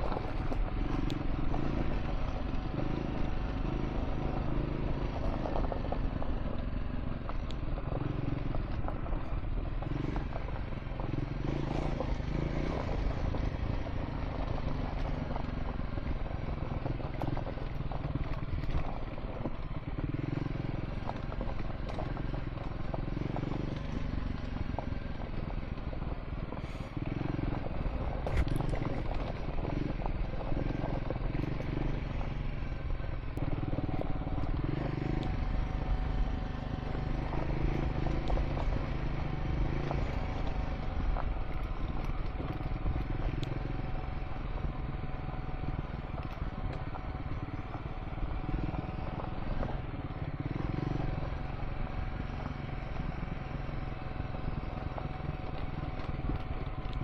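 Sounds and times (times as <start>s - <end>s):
motorcycle engine running: 0.0s - 57.0s
tyres crunching on gravel: 0.0s - 57.0s.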